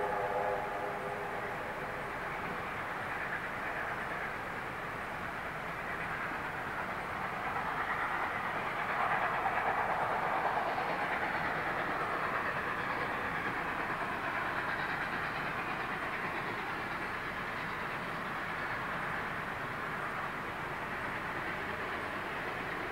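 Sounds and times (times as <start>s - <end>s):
train rumbling on track: 0.0s - 22.9s.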